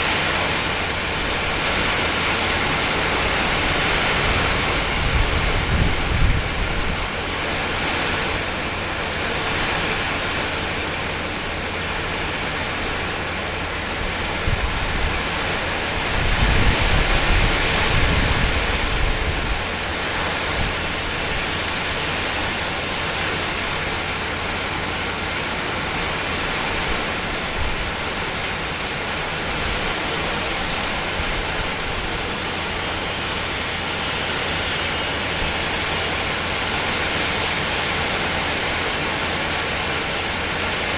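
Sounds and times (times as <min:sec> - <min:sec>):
rain on a tin roof: 0:00.0 - 0:40.9.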